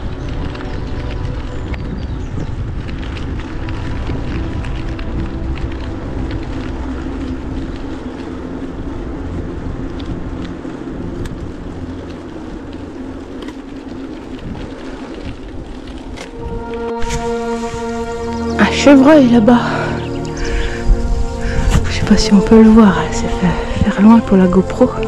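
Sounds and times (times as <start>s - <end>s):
bike tyres rolling on gravel: 0.0s - 25.0s
wind on microphone: 0.0s - 25.0s.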